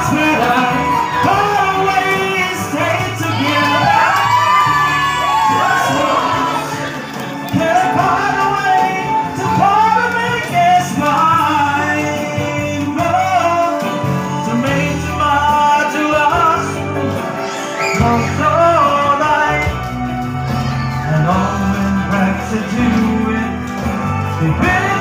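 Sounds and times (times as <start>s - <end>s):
backing music: 0.0s - 25.0s
man singing into microphone: 0.0s - 25.0s.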